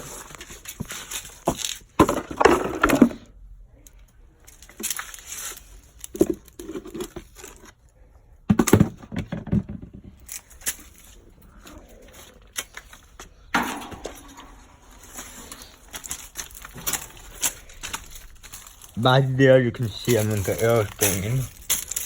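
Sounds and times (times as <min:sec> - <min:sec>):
clutter knocking and scraping: 0:00.0 - 0:03.3, 0:04.6 - 0:07.8, 0:08.5 - 0:22.0.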